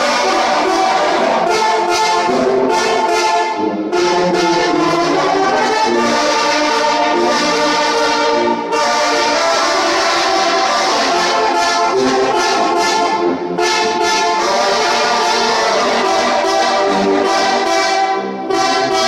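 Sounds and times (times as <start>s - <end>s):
brass band playing chords: 0.0s - 19.0s.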